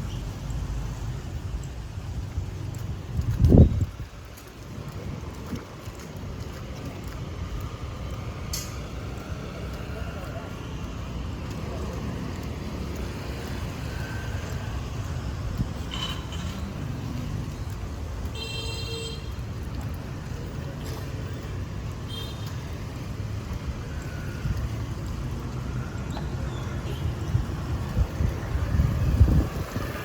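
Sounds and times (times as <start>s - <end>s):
street traffic rumble: 0.0s - 30.0s.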